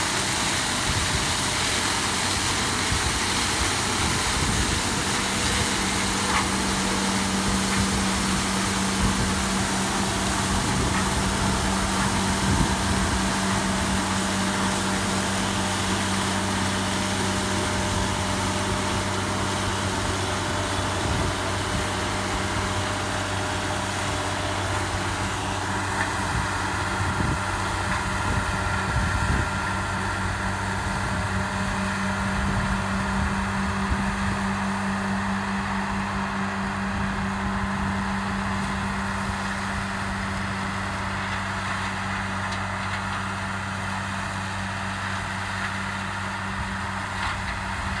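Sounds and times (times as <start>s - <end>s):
harvester engine droning: 0.0s - 48.0s.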